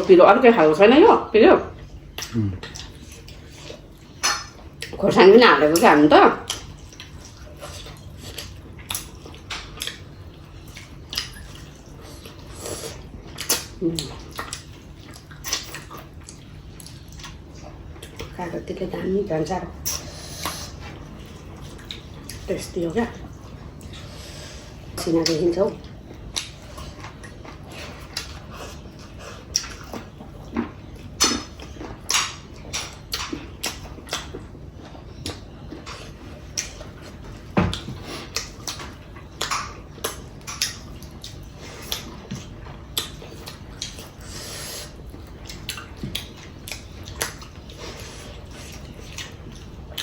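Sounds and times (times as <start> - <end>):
wet chewing and lip smacks: 2.0 - 5.0, 6.5 - 18.4, 19.8 - 22.5, 25.2 - 50.0.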